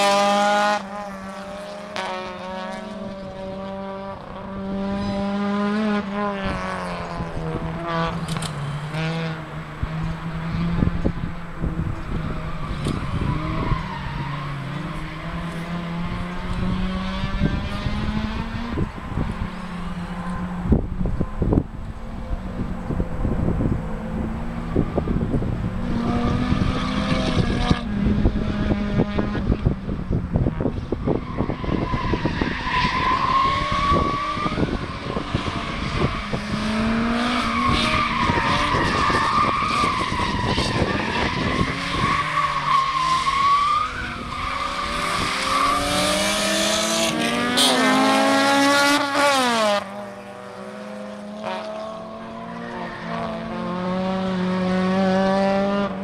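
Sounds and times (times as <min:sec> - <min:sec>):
car engine revving: 0:00.0 - 0:52.3.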